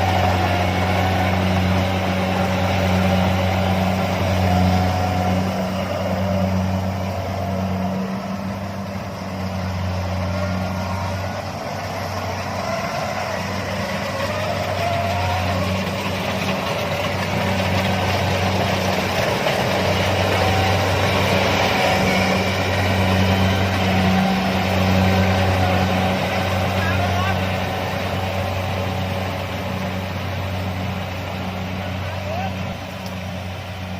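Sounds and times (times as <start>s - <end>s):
threshing machinery rushing: 0.0s - 33.8s
diesel engine drone: 0.0s - 33.9s.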